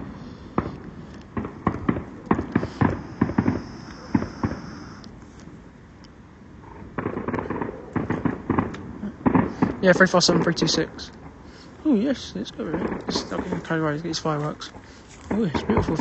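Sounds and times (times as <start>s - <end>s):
distant fireworks bangs and crackles: 0.0s - 5.6s, 6.6s - 16.0s.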